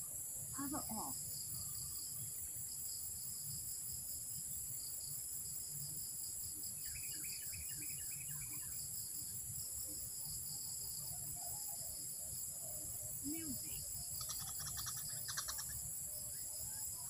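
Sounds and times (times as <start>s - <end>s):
crickets and insects chorus: 0.0s - 17.0s.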